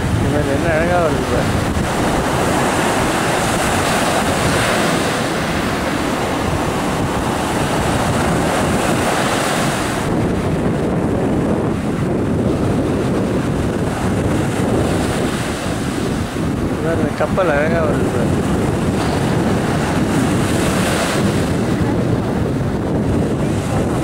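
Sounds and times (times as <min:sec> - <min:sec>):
sea surf breaking: 0:00.0 - 0:24.0
wind buffeting microphone: 0:00.0 - 0:24.0.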